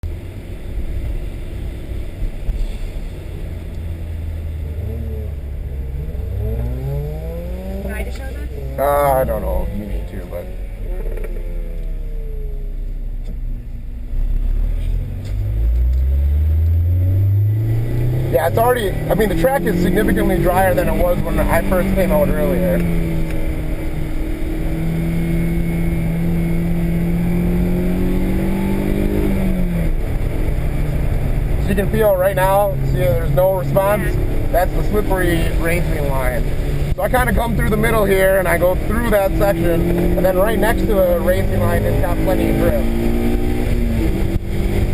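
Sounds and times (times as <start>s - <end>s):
car engine rumble: 0.0s - 44.9s
road noise: 0.0s - 44.9s.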